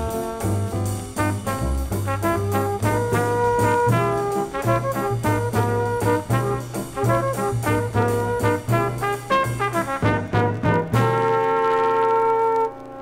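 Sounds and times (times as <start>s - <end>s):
drums steady beat: 0.0s - 11.4s
walking bass line: 0.0s - 12.6s
brass horns melody: 0.0s - 13.0s.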